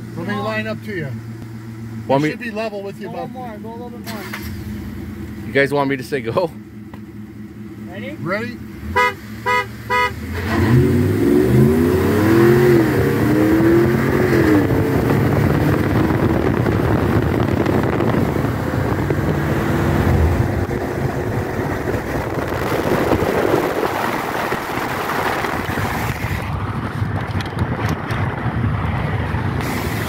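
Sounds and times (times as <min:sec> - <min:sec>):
truck engine at full throttle: 0:00.0 - 0:30.0
wind and road noise: 0:00.0 - 0:30.0.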